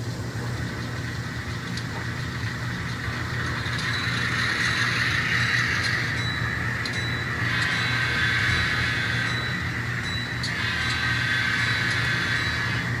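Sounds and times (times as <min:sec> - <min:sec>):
hissing whine: 0:00.0 - 0:13.0
model locomotive diesel engine sound: 0:00.0 - 0:13.0
steady low hum: 0:00.0 - 0:13.0.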